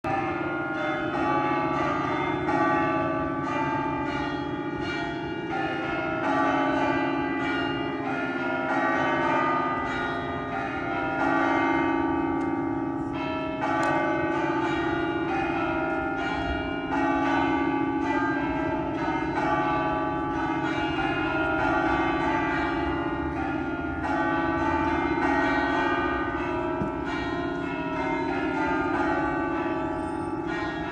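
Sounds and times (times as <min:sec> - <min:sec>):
church bells pealing: 0:00.1 - 0:30.9.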